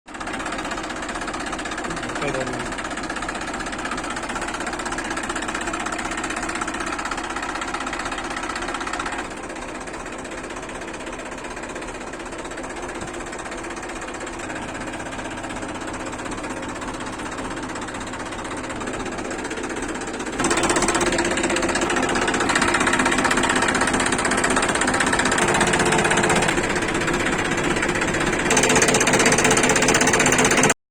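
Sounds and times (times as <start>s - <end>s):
tractor diesel engine clattering: 0.1s - 30.8s.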